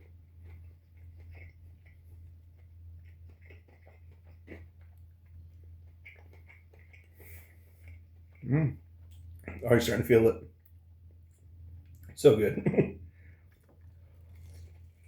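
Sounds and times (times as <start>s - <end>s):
chewing fried chicken: 0.0s - 15.0s
steady low hum: 0.0s - 15.0s.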